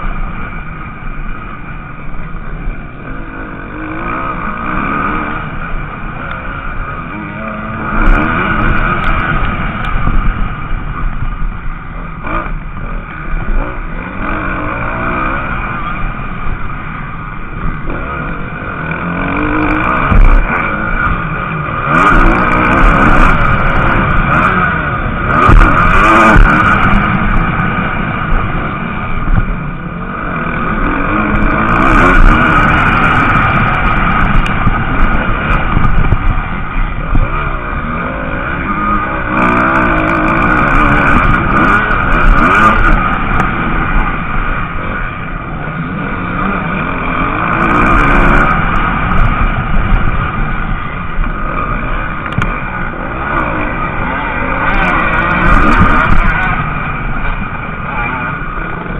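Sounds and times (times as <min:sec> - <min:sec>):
motocross bike engines revving: 0:00.0 - 0:58.9.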